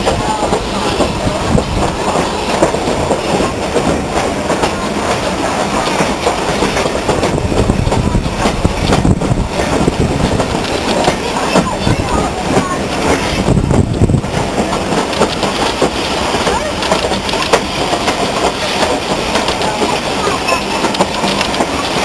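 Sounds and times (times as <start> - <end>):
railway carriage rumbling: 0.0 - 22.0
wheels clattering over rail joints: 0.0 - 22.0.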